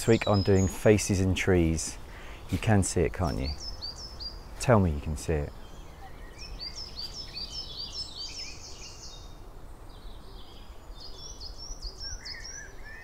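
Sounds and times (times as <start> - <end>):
low outdoor background noise: 0.0 - 13.0.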